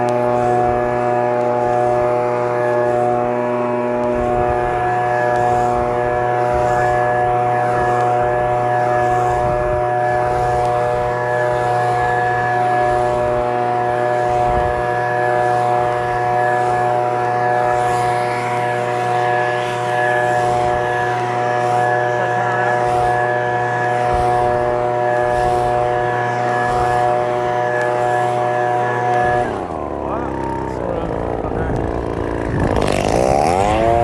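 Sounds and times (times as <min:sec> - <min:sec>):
leaf blower running: 0:00.0 - 0:34.0.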